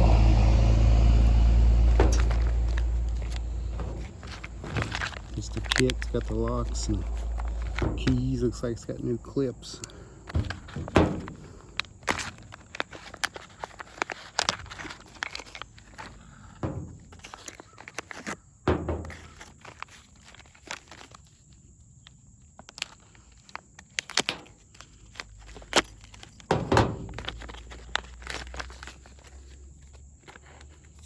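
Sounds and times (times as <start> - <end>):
packaging rustling thumps: 1.7 - 21.4, 22.7 - 30.7
small parts clicking and knocking: 1.9 - 31.0.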